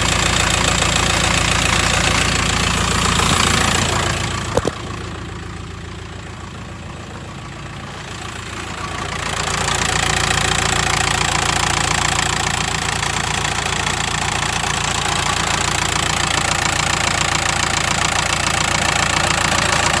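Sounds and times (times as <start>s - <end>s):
diesel engine idling: 0.0s - 20.0s
engine rattle: 0.0s - 20.0s.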